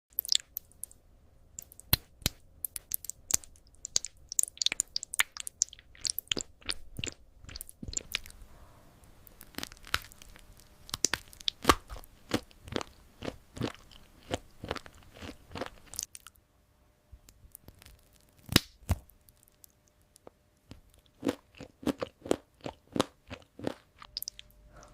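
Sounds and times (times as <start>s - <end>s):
crunchy food being chewed: 1.6s - 8.4s, 9.1s - 16.4s, 17.5s - 24.9s.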